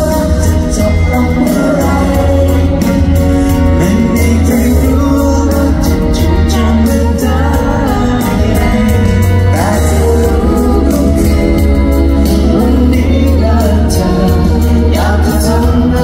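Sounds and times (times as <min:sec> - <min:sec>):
live band playing: 0:00.0 - 0:16.0
man singing: 0:00.0 - 0:16.0
steady drum beat: 0:00.0 - 0:16.0
strong bass: 0:00.0 - 0:16.0.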